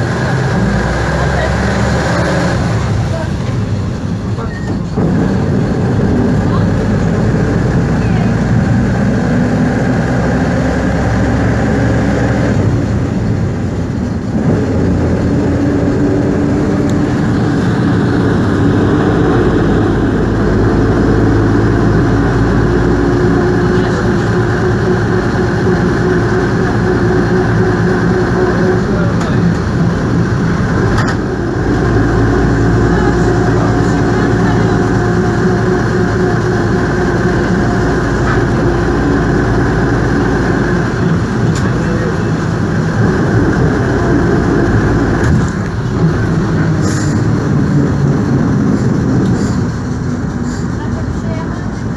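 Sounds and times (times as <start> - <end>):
bus diesel engine driving: 0.0 - 51.9.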